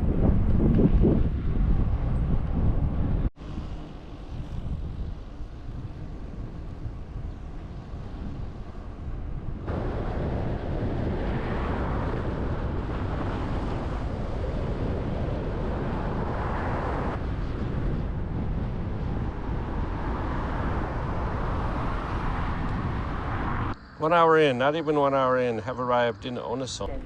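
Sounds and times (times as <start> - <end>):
wind on microphone: 0.0 - 26.0
vehicles passing: 0.0 - 27.0.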